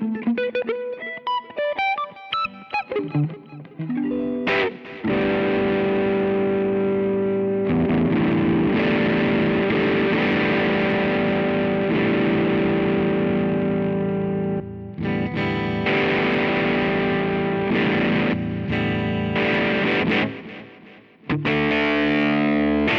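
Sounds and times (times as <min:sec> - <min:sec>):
distorted electric guitar chords: 0:00.0 - 0:22.9.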